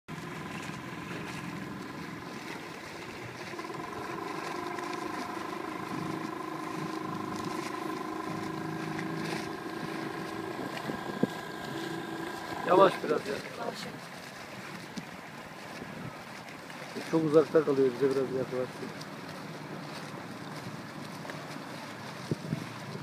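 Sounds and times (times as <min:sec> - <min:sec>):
wind on microphone: 0:00.1 - 0:16.5, 0:18.9 - 0:23.0
outboard motor running: 0:00.1 - 0:23.0
water washing: 0:00.1 - 0:23.0.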